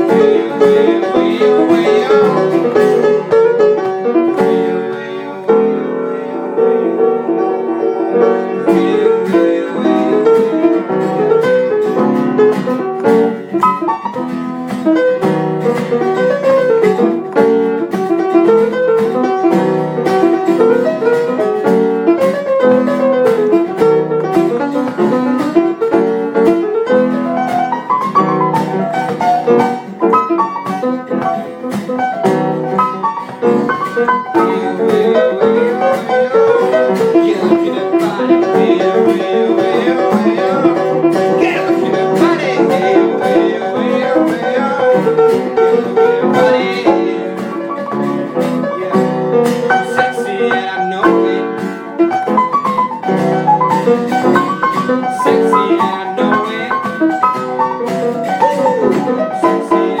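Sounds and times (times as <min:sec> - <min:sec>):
piano playing: 0:00.0 - 1:00.0.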